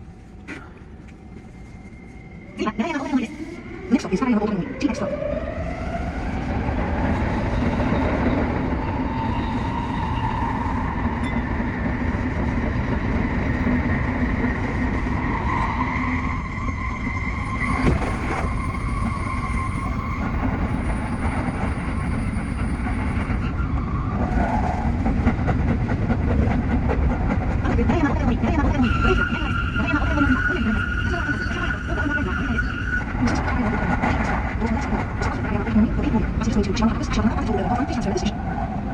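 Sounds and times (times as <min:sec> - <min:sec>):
train running noise: 0:00.0 - 0:38.9.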